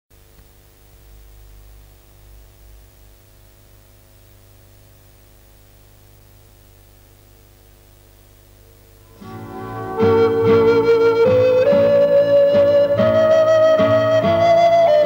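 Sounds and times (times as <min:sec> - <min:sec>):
film soundtrack hiss: 0:00.2 - 0:15.0
low mains hum: 0:00.2 - 0:15.0.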